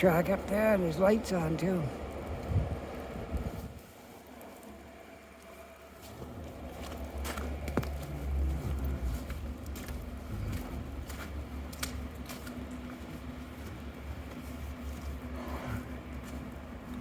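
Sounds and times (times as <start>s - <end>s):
distant diesel locomotive rumble: 0.0s - 17.0s.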